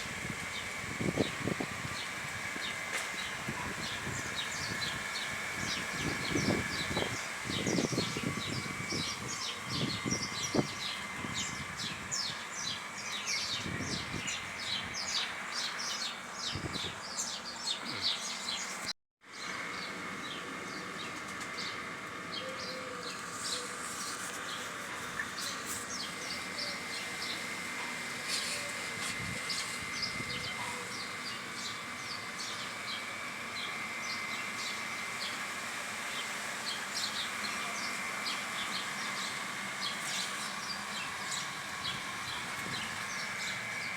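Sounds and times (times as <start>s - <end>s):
birds chirping: 0.5s - 43.9s.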